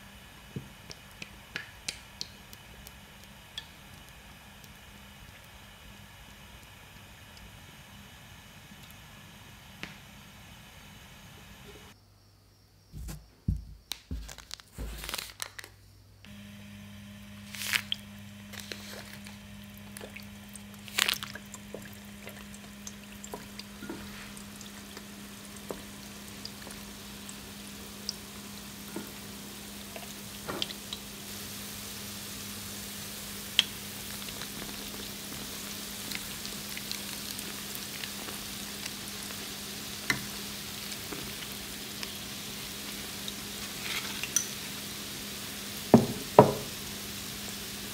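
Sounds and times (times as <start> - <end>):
oil sizzling: 0.0 - 12.0, 16.3 - 47.9
oil popping and crackling: 0.5 - 7.5, 13.9 - 15.7, 17.4 - 47.8.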